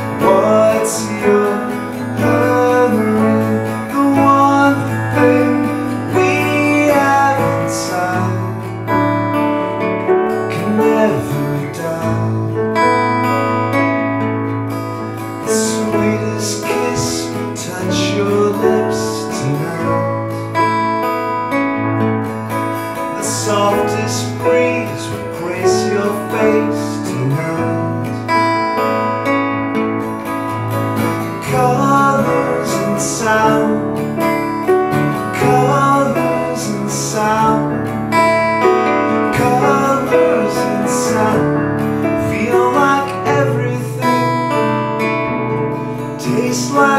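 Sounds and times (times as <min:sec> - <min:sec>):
guitar strumming chords: 0:00.0 - 0:46.9
piano playing: 0:00.0 - 0:46.9.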